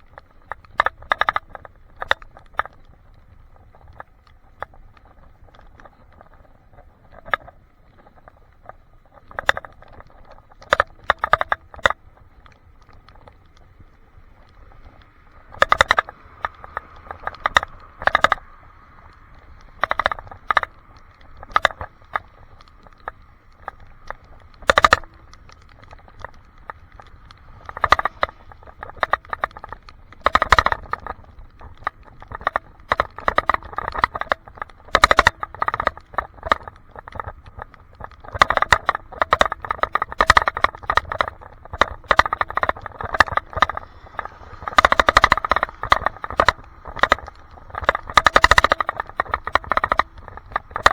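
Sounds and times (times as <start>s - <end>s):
rattling clicks: 0.0s - 50.9s.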